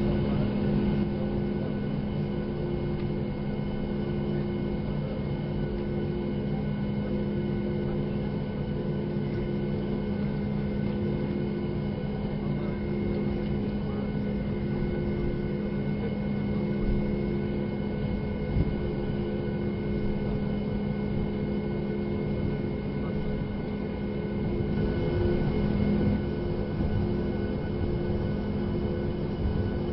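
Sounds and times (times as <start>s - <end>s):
aircraft cabin engine hum: 0.0s - 29.9s
steady whine: 0.0s - 29.9s.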